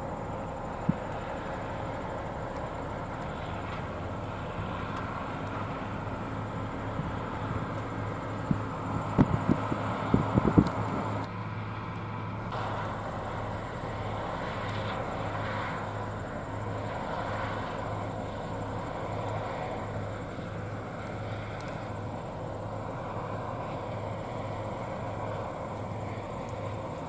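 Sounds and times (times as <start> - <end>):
harvest machinery engine drone: 0.0 - 27.0.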